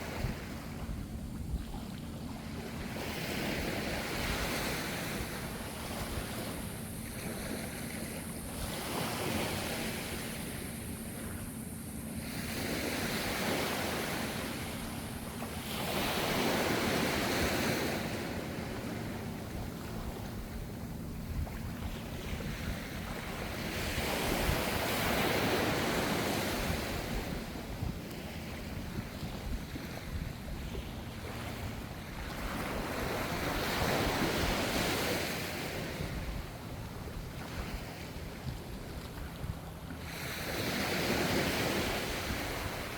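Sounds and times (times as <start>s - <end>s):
ocean waves washing ashore: 0.0s - 42.9s
wind noise on microphone: 0.0s - 42.9s.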